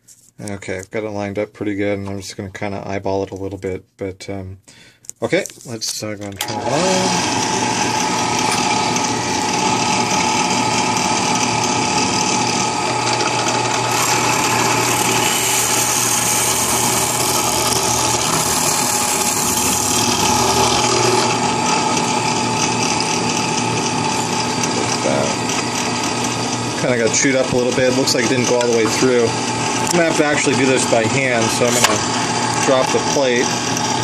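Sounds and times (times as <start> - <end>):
drill bit cutting plastic: 6.4 - 34.0
drill press running: 6.4 - 34.0.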